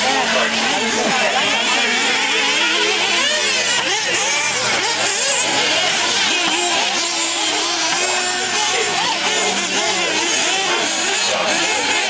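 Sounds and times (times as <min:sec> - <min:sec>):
rc car engines whining: 0:00.0 - 0:12.0.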